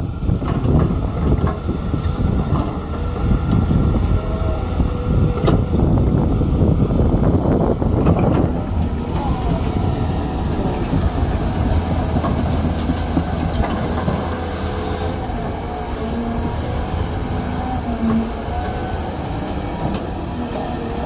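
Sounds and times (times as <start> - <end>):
excavator diesel engine: 0.0 - 21.0.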